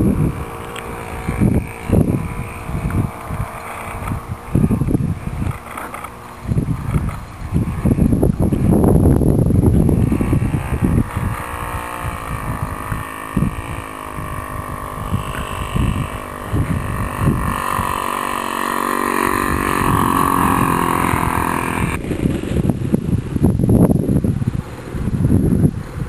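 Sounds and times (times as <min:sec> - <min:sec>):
model airplane engine running: 0:00.0 - 0:26.0
wind on microphone: 0:00.0 - 0:26.0.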